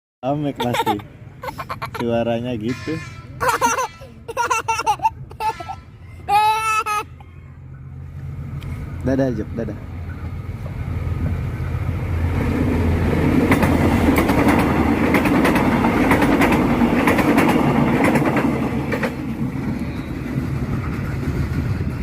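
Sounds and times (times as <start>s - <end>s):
train rumble: 0.4s - 22.0s.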